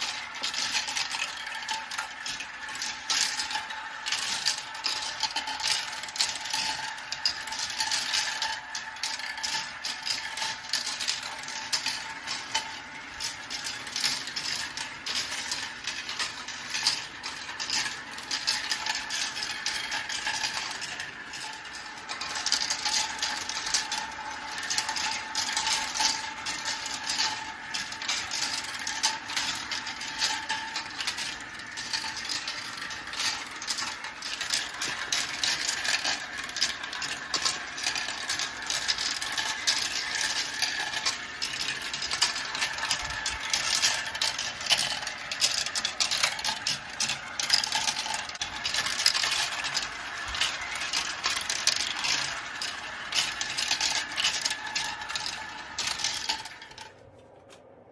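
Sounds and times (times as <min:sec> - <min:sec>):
marbles clattering down a track: 0:00.0 - 0:57.9.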